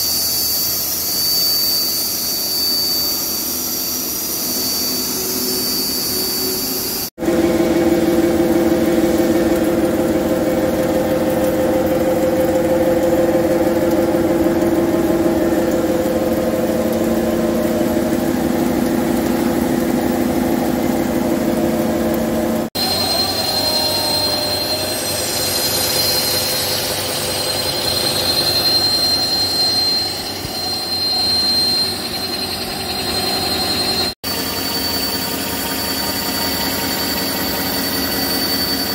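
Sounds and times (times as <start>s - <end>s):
high-pitched spindle whine: 0.0s - 38.9s
machine hum: 0.0s - 38.9s
metal milling noise: 0.1s - 38.9s.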